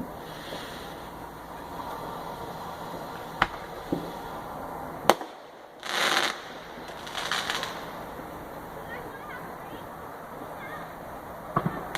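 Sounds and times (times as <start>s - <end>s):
firework hiss: 0.0s - 11.9s
fireworks bangs: 0.0s - 11.9s.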